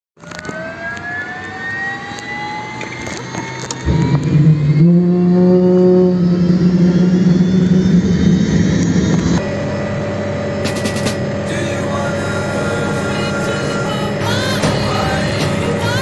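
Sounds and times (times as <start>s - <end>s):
helicopter turbine whine: 0.2s - 16.0s
rotor low drone: 0.2s - 16.0s.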